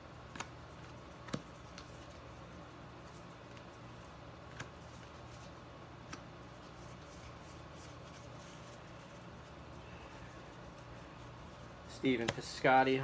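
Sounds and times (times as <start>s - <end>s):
trading cards rustling: 0.2s - 13.0s.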